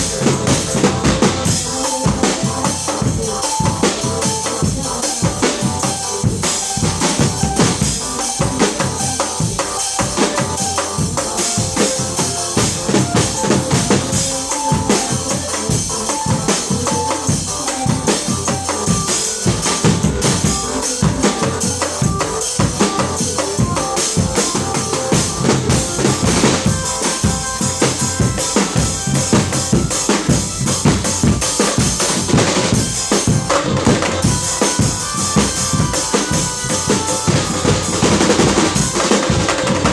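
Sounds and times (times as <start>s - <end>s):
percussion-led music: 0.0s - 39.9s.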